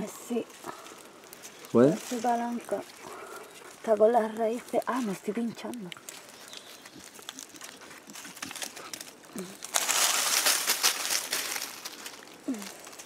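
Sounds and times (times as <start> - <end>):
twigs and leaves crackling: 0.0 - 13.0.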